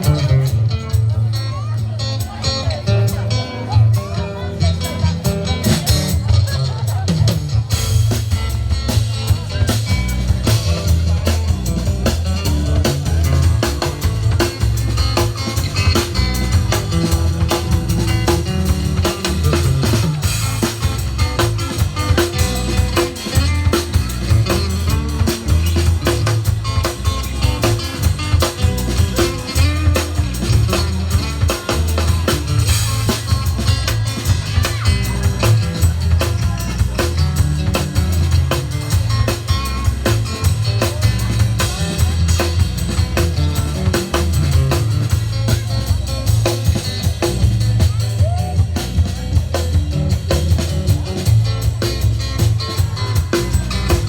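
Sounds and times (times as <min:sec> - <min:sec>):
bass line: 0:00.0 - 0:54.0
drum kit beat: 0:00.0 - 0:54.0
guitar: 0:00.0 - 0:54.0.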